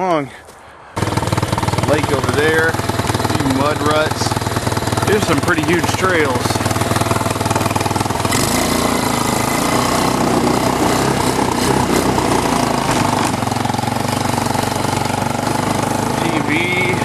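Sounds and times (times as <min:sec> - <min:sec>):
engine running with pulsing beat: 0:00.9 - 0:17.0.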